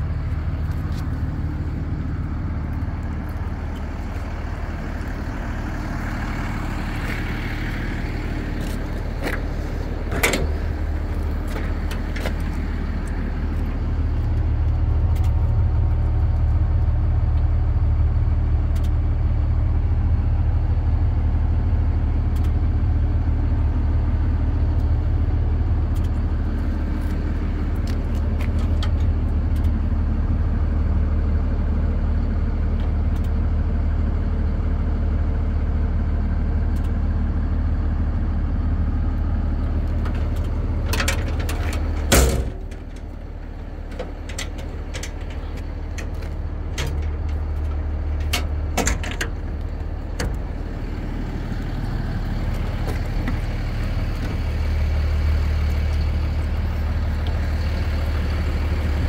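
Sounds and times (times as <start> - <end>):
truck engine humming: 0.0 - 59.0.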